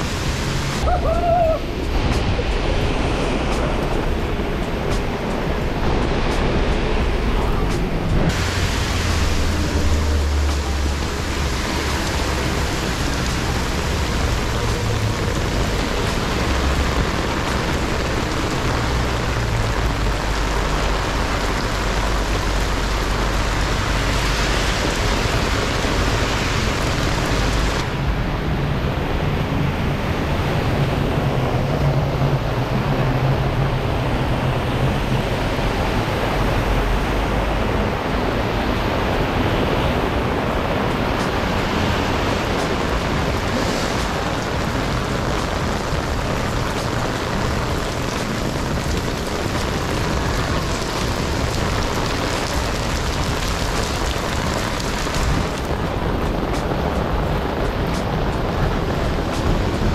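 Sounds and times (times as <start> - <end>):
heavy rain on umbrella: 0.0 - 28.2, 30.3 - 59.9
traffic rumble: 0.0 - 59.9.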